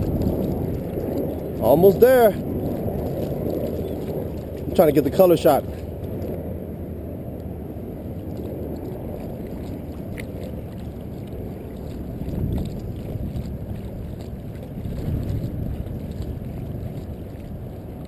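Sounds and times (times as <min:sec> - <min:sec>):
water lapping and sloshing: 0:00.0 - 0:18.0
wind rumbling on microphone: 0:00.0 - 0:18.0.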